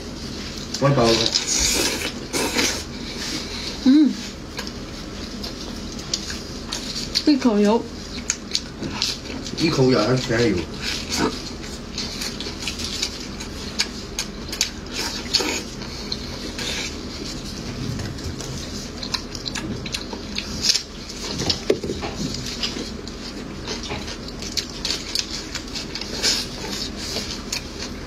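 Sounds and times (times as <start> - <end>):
wet chewing mouth sounds: 0.4 - 7.3, 7.9 - 28.0.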